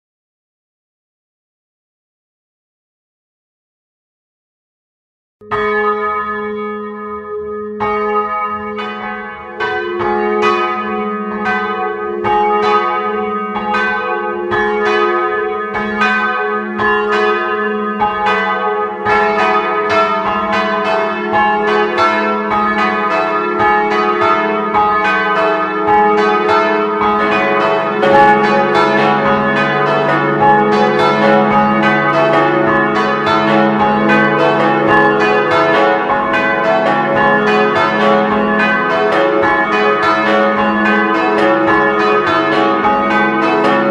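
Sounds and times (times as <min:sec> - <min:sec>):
church bells ringing: 0:05.4 - 0:43.9.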